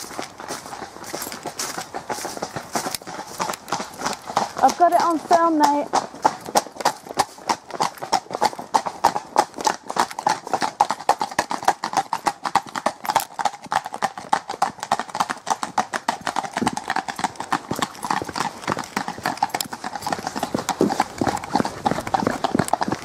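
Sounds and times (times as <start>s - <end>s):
horse hooves on tarmac: 0.0s - 23.0s.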